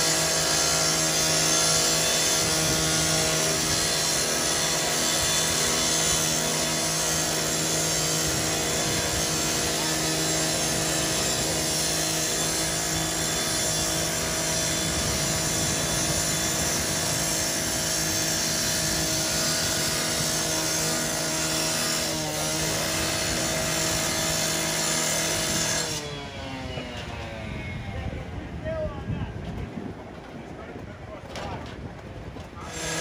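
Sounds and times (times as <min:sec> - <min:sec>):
power cutter cutting sheet metal: 0:00.0 - 0:27.8, 0:32.6 - 0:33.0.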